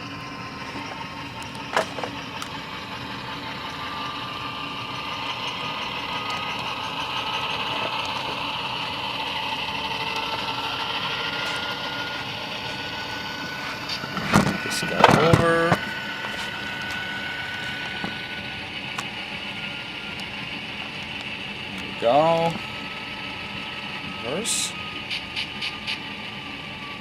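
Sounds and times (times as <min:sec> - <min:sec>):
diesel engine sound from small speaker: 0:00.0 - 0:27.0
thin rising whine: 0:00.0 - 0:27.0.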